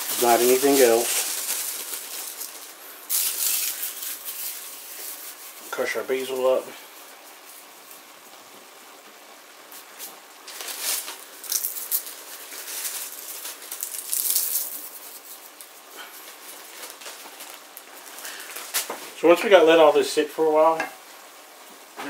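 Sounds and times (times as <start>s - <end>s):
dried herbs crushed crackly rustling: 0.0s - 8.3s, 9.7s - 20.2s.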